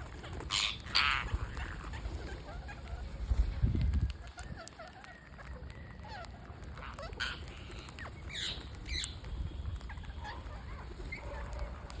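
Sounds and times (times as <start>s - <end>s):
parrots squawking and chirping: 0.0s - 3.4s, 4.2s - 12.0s.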